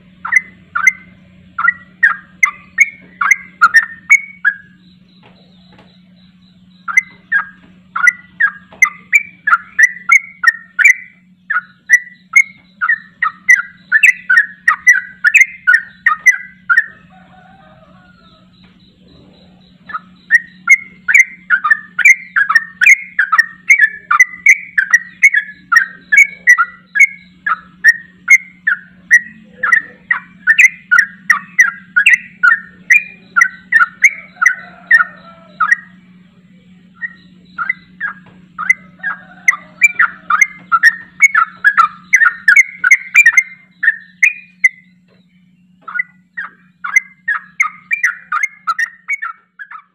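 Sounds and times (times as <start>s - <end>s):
bird bubbly chattering song: 0.0s - 49.9s.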